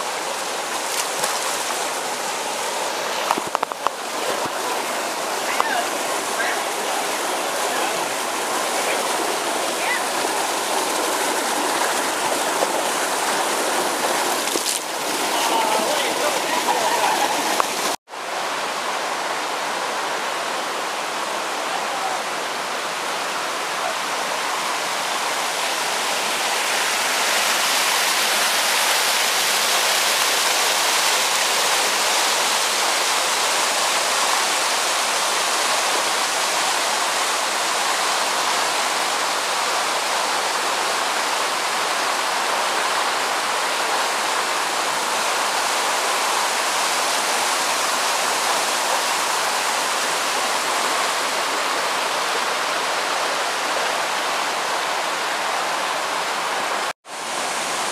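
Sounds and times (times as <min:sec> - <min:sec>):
creek water rushing over rocks: 0:00.0 - 0:57.9.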